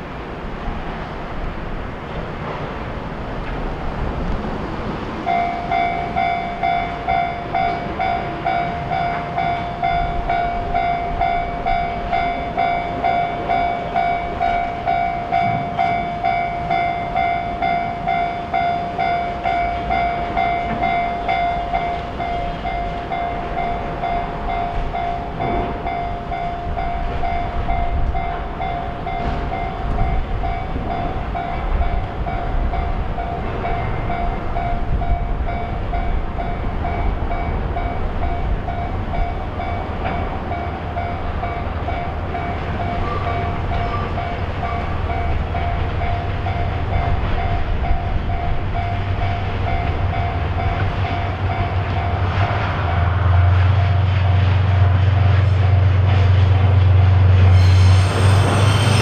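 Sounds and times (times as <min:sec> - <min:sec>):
level-crossing alarm ringing: 0:05.3 - 0:52.4, 0:57.4 - 0:59.0.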